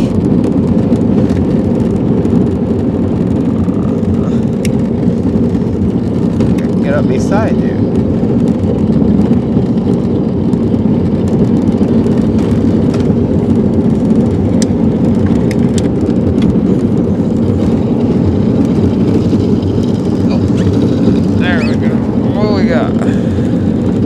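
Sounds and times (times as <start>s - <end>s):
jet boat engine running: 0.0s - 24.0s.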